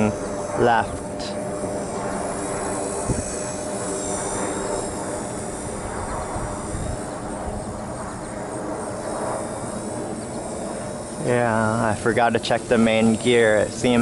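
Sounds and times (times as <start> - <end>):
rc helicopter rotor whine: 0.0 - 14.0
wind rumbling on microphone: 0.0 - 14.0.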